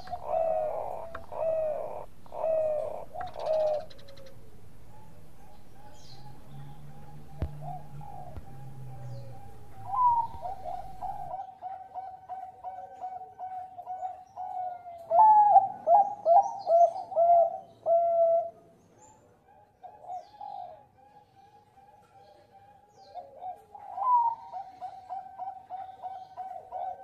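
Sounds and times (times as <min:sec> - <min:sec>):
dove cooing: 0:00.0 - 0:18.6, 0:19.5 - 0:27.0.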